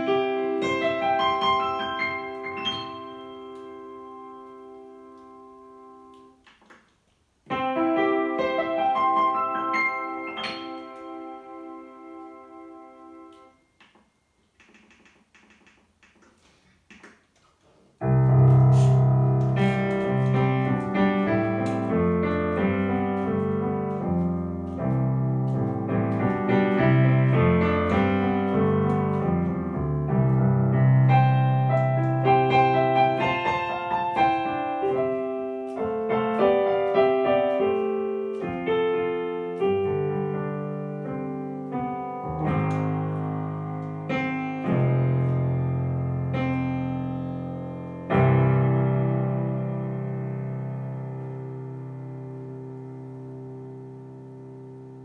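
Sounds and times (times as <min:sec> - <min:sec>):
digital piano chords: 0:00.0 - 0:55.0.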